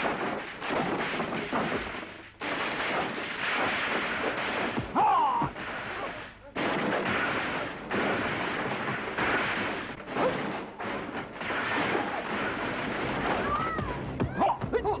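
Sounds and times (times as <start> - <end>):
punch and swoosh hits: 0.0 - 5.8, 6.6 - 13.5.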